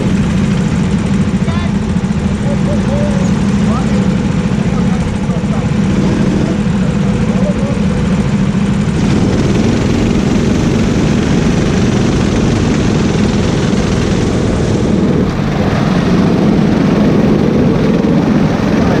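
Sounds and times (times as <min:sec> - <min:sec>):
go-kart engine running: 0:00.0 - 0:19.0.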